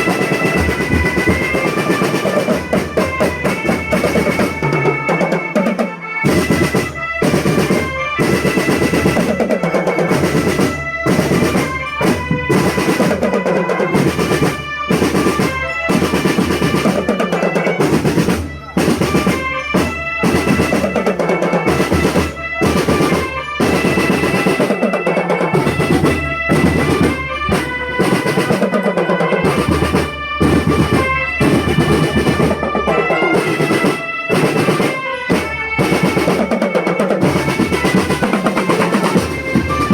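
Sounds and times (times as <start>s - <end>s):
snare drum rolls: 0.0s - 39.9s.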